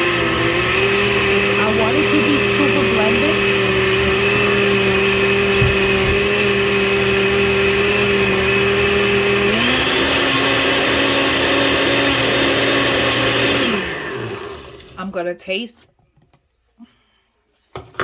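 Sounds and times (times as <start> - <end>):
blender running: 0.0 - 15.1.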